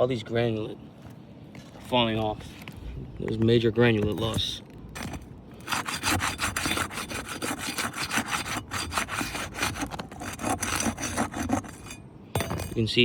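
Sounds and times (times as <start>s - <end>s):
tool scraping under shingle: 1.0s - 12.8s.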